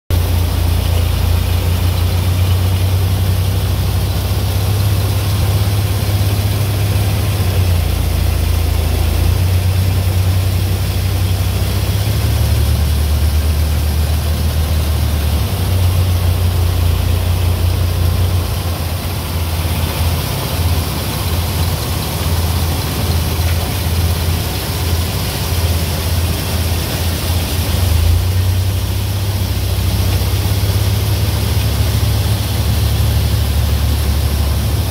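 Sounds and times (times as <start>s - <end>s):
tractor running corn picker: 0.1s - 34.9s.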